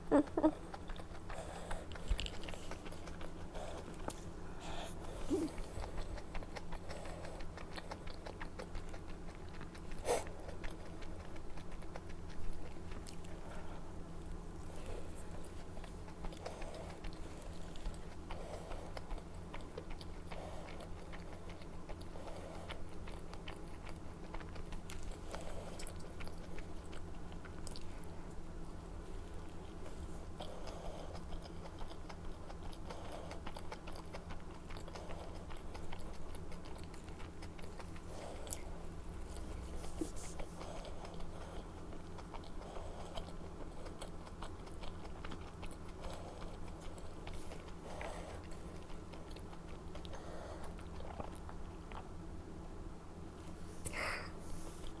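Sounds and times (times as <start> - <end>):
close-miked chewing: 0.0 - 55.0
steady low hum: 0.0 - 55.0.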